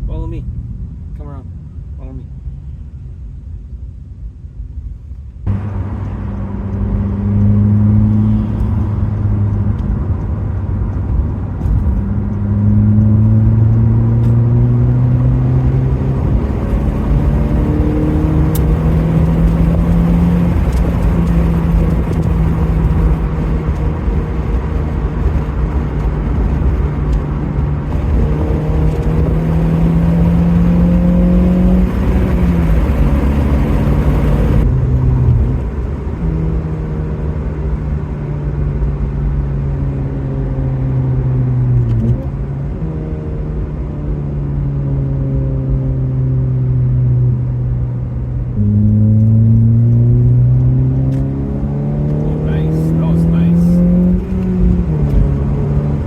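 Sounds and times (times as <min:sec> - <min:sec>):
road noise: 0:00.0 - 0:56.0
car engine running: 0:05.5 - 0:56.0.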